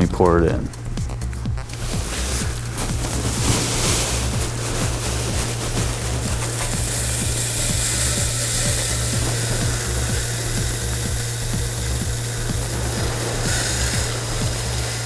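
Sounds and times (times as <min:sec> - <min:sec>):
music with steady beat: 0:00.0 - 0:15.0
granules pouring through funnel: 0:01.7 - 0:15.0.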